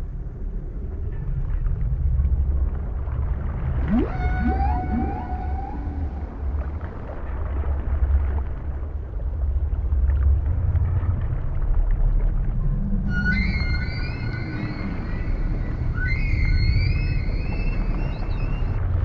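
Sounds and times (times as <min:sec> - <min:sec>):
whale song: 0:00.0 - 0:09.0, 0:09.9 - 0:19.0
steady low rumble: 0:00.0 - 0:19.0.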